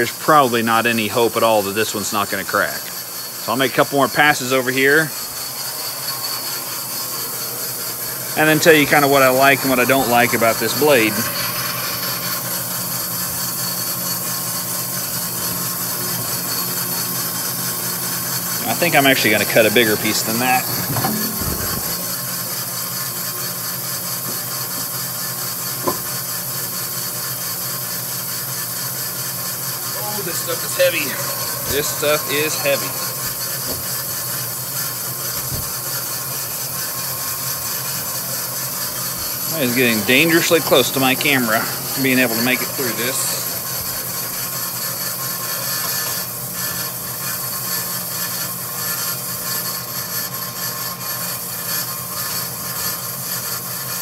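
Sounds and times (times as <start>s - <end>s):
bandsaw running: 0.0s - 54.0s
saw blade hissing through wood: 2.1s - 53.9s.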